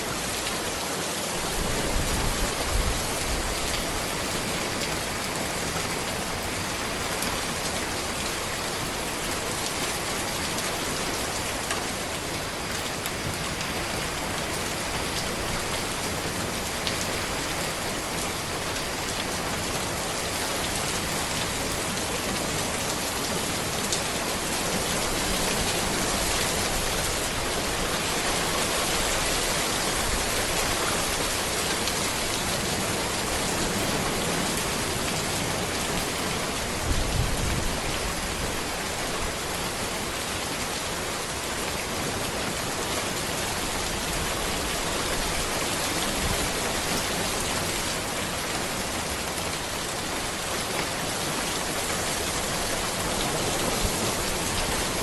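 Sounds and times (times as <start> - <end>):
rain falling on a road: 0.0 - 55.0.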